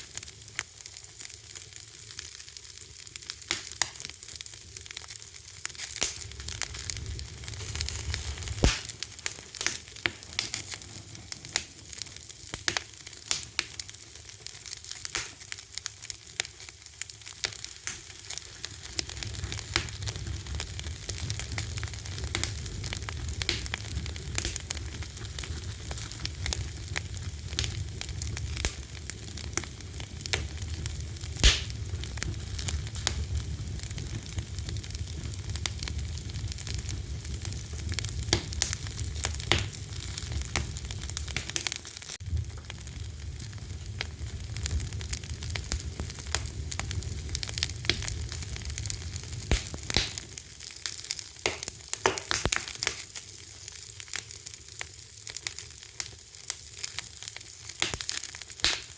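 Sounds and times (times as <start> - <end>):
fire crackling: 0.0 - 58.9.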